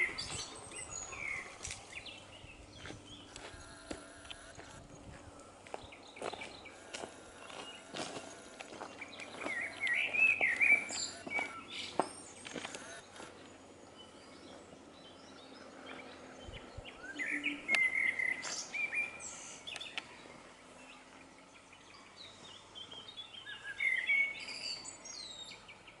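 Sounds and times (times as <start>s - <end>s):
songbirds chirping and warbling: 0.0s - 26.0s.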